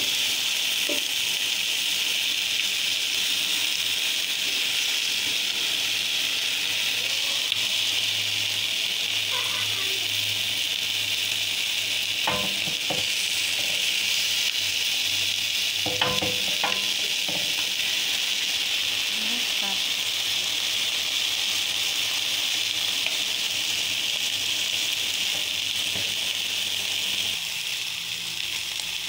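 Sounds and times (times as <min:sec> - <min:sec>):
chicken sizzling on a griddle pan: 0:00.0 - 0:29.0.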